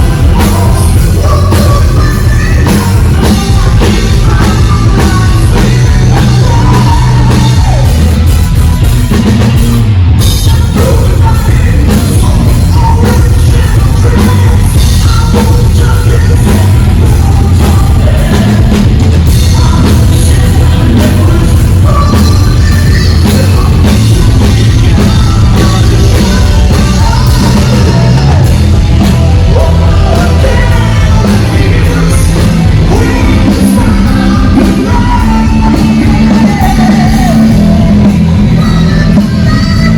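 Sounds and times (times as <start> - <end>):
person singing: 0.0 - 8.6, 10.2 - 39.9
rock band playing: 0.0 - 39.9.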